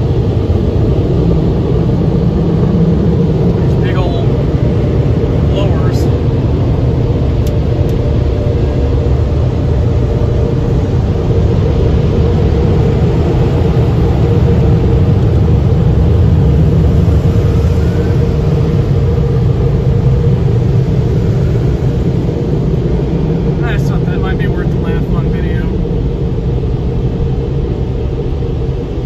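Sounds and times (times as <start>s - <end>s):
car wash air blowers rushing: 0.0s - 29.0s.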